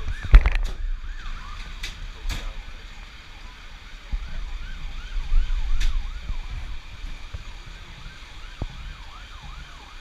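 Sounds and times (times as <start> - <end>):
siren yelping: 0.0 - 1.8, 2.6 - 10.0.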